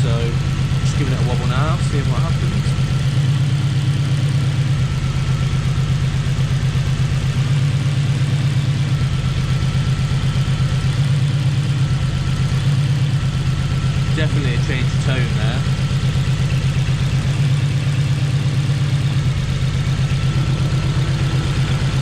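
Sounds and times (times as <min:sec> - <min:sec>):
engine idling with a misfire: 0:00.0 - 0:22.0.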